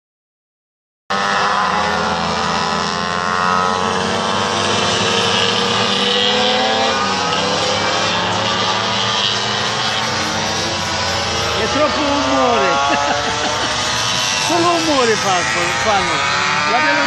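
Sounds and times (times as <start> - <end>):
racing motorcycles revving: 1.1 - 17.0.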